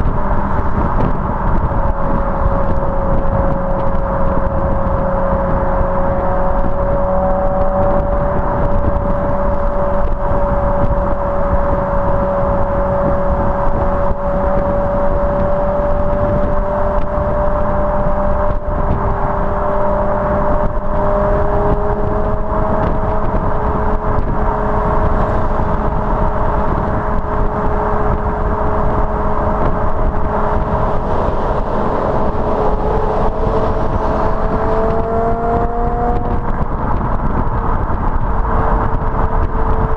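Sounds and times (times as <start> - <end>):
car engine droning: 0.0 - 39.9
wind and road noise: 0.0 - 39.9.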